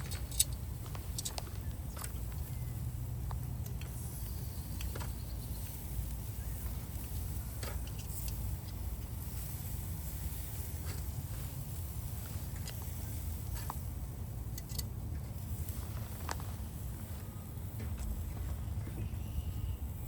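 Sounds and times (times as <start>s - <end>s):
pops and crackles of grilling: 0.0s - 18.5s
steady low rumble: 0.0s - 20.0s.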